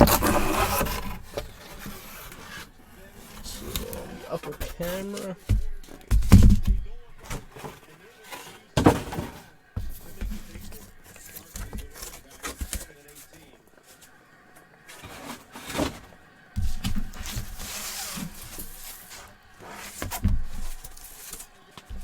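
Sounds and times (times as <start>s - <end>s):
scraping or rustling: 0.0s - 22.0s.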